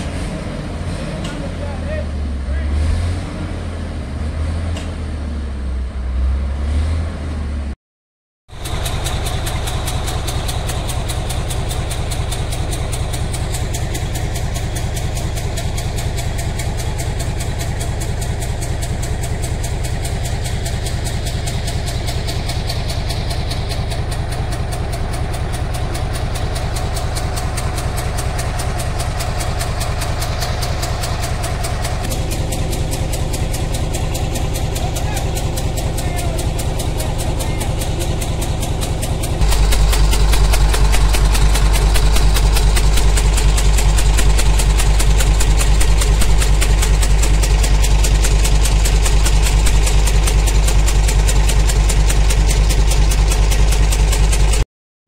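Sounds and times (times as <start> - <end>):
bulldozer diesel engine running: 0.0 - 7.8, 8.5 - 54.6.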